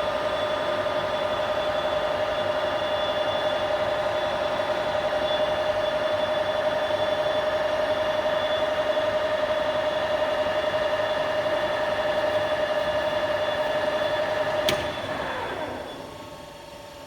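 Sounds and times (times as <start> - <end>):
lathe running with a whine: 0.0 - 17.0.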